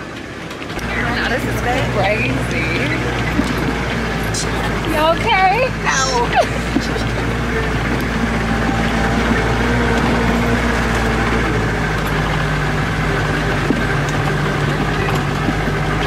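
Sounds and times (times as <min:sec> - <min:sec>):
van engine under load: 0:00.0 - 0:16.0.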